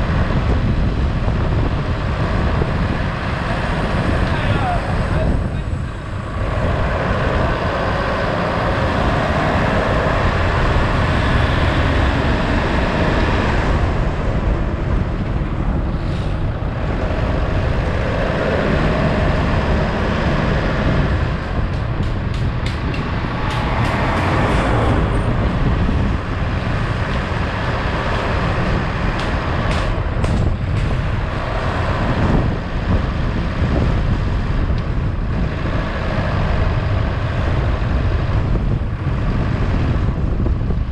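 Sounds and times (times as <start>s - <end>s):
vehicle and road noise: 0.0s - 40.9s.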